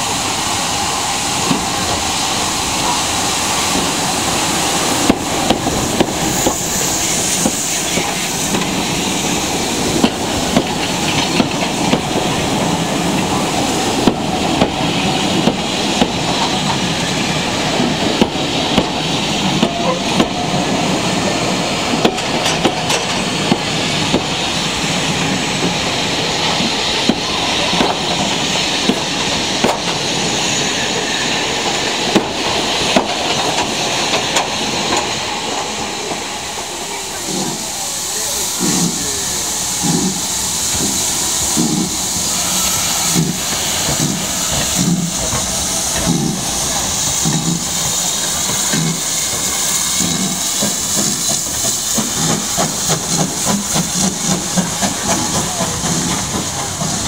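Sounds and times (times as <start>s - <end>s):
steam train rumbling past: 0.0s - 57.0s.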